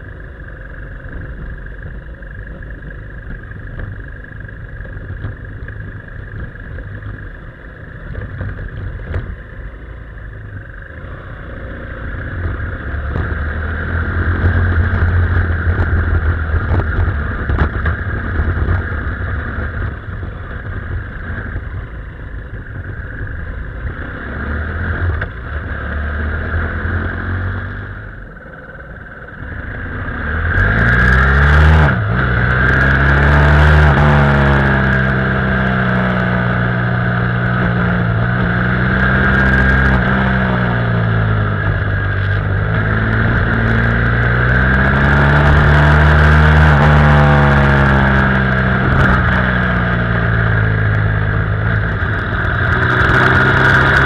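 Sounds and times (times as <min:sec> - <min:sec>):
motorcycle engine running: 0:00.0 - 0:54.0
tyre and road noise: 0:00.0 - 0:54.0.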